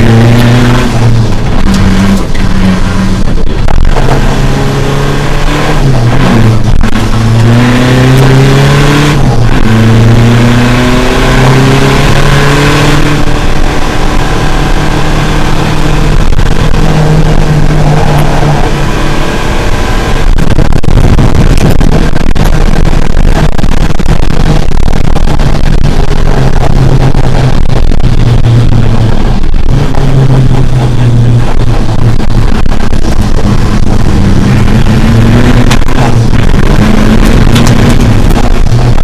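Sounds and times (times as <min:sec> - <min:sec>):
car engine driven hard: 0:00.0 - 0:39.0
road and tyre noise: 0:00.0 - 0:39.0.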